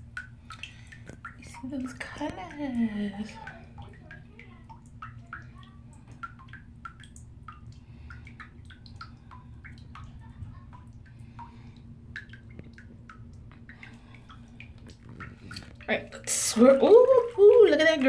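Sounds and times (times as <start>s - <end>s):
bubbles plinking and popping: 0.0s - 18.0s.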